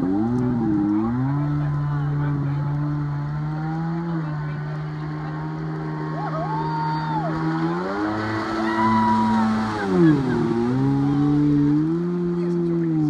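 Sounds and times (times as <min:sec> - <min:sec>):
jet ski engine passing by: 0:00.0 - 0:13.0.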